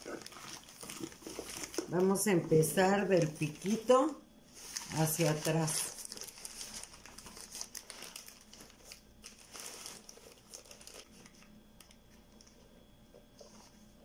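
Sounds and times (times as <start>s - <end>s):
plastic sheeting crinkling: 0.0s - 2.2s, 2.9s - 12.6s.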